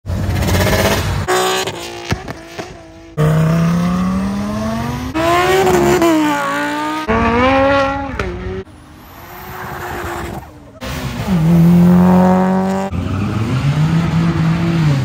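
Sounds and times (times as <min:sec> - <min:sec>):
cars accelerating hard past: 0:00.3 - 0:15.0.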